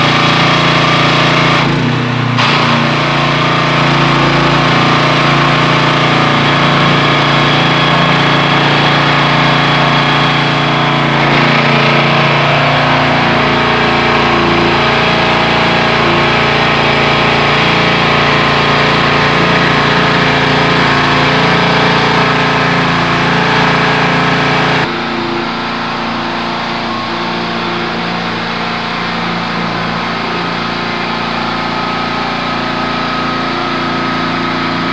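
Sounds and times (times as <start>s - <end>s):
pressure washer running: 0.0s - 34.9s.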